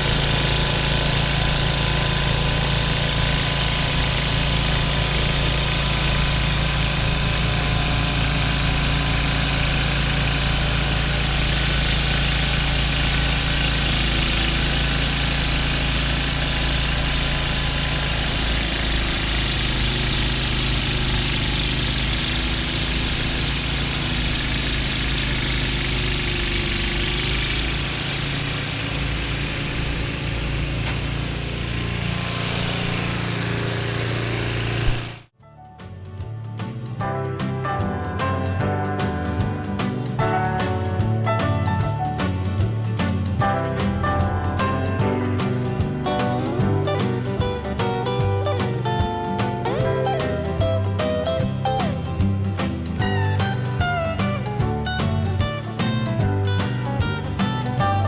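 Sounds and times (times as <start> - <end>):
snowblower engine running: 0.0 - 35.4, 36.0 - 58.0.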